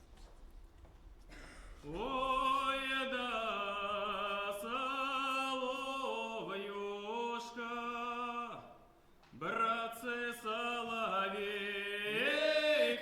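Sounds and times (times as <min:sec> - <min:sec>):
man singing unaccompanied: 0:01.9 - 0:08.8, 0:09.4 - 0:13.0.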